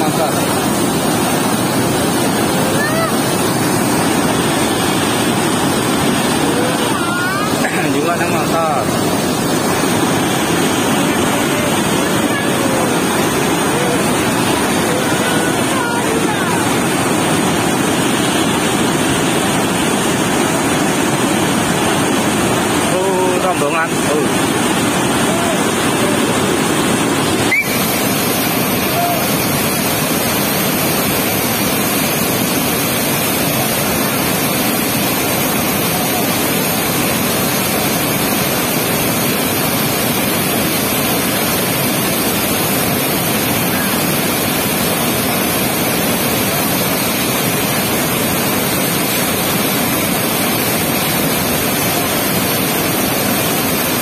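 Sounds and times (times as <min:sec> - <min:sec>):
water rushing through sluice gate: 0:00.0 - 0:54.0.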